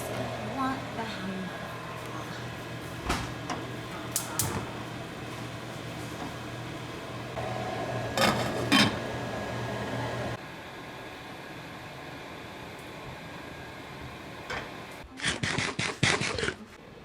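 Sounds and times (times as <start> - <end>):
appliance hum: 0.0 - 16.0.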